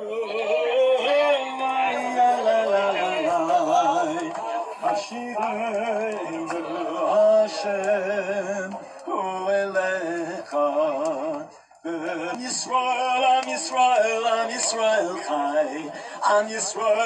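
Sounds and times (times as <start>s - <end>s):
man singing a chant: 0.0s - 17.0s.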